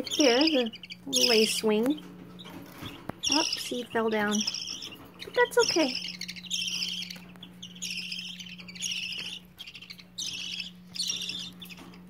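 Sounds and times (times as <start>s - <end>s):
baby budgerigars buzzy calls: 0.0s - 12.0s.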